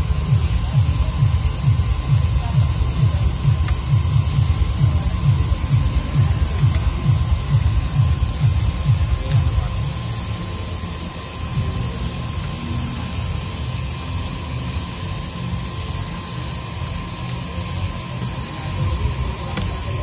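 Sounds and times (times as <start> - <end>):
engraving machine spindle humming: 0.0 - 20.0.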